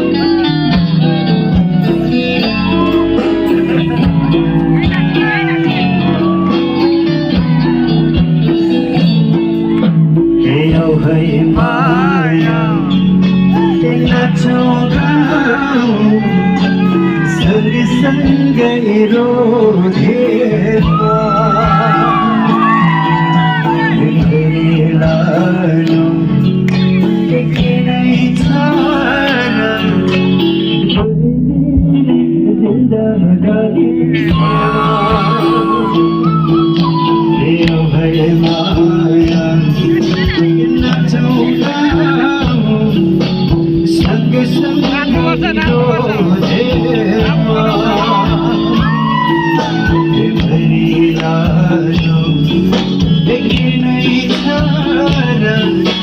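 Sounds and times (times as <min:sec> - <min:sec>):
electric guitar and bass chords: 0:00.0 - 0:56.0
live band playing: 0:00.0 - 0:56.0
person singing: 0:00.0 - 0:56.0.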